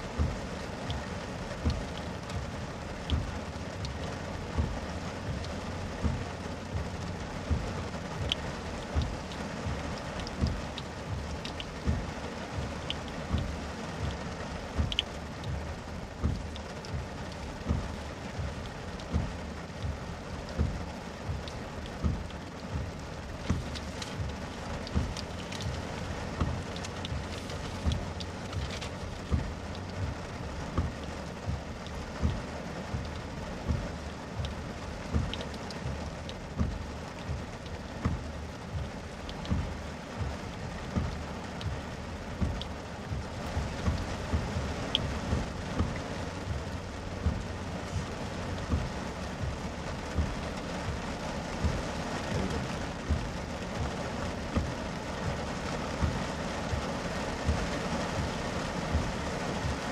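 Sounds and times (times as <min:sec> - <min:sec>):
dull low thuds: 0:00.0 - 0:59.9
heavy rain on car roof: 0:00.0 - 0:59.9.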